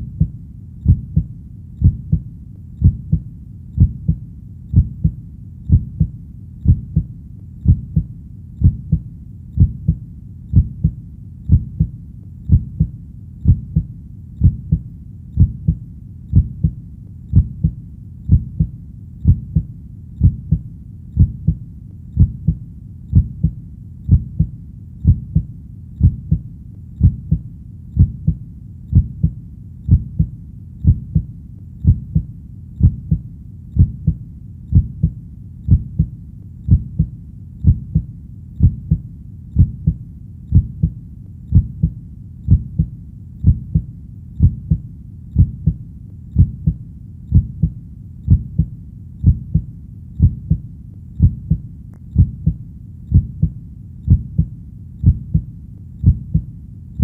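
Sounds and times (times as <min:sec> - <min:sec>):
faint low hum: 0:00.0 - 0:57.0
heartbeat: 0:00.0 - 0:57.0.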